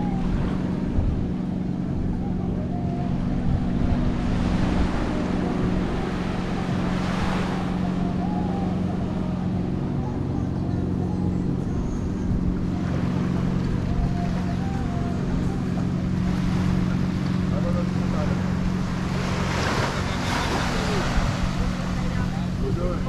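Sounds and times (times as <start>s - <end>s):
faint distant voices: 0.0s - 23.0s
low motor hum: 0.0s - 23.0s
wash of noise: 0.0s - 23.0s.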